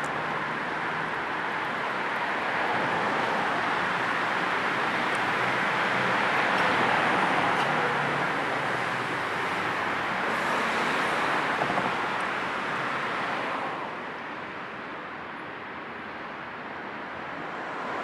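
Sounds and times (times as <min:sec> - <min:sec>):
car road and tyre noise: 0:00.0 - 0:18.0.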